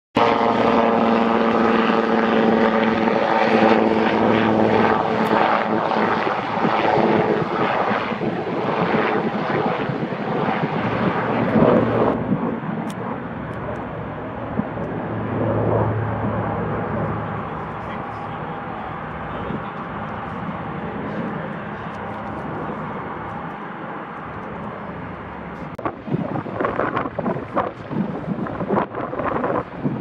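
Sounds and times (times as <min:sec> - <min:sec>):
helicopter engine whine: 0:00.2 - 0:30.0
helicopter rotors beating: 0:00.2 - 0:30.0.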